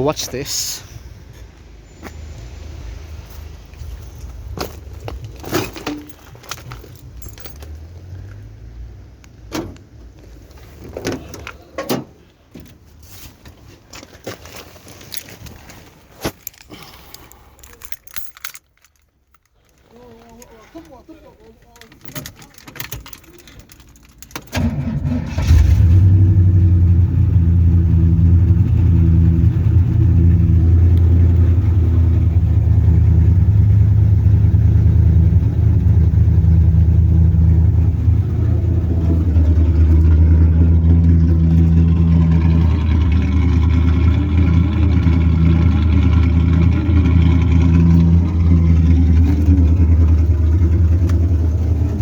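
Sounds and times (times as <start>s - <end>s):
car engine cranking and running: 0.1s - 12.9s, 13.5s - 52.0s.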